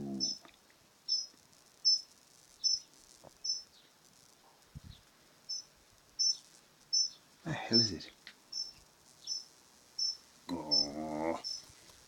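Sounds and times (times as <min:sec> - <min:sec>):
bird chirping: 0:00.0 - 0:04.0, 0:04.8 - 0:11.7.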